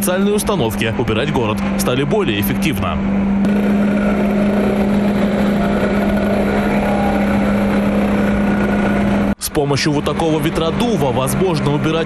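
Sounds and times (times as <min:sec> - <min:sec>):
leaf blower engine drone: 0:01.2 - 0:12.0.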